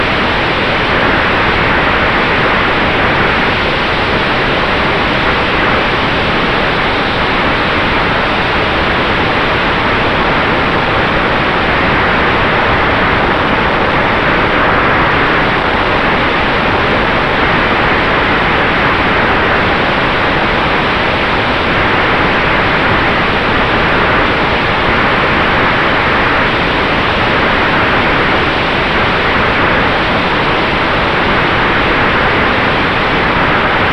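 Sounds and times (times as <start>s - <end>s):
airflow and propeller noise: 0.0s - 33.9s.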